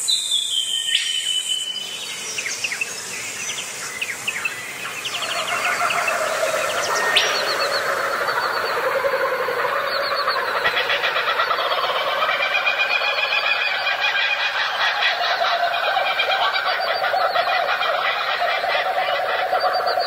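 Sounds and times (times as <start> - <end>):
birds chattering: 0.0 - 20.0.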